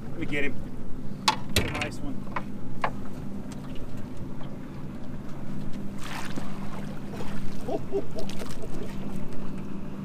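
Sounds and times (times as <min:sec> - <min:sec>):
boat motor hum: 0:00.0 - 0:10.0.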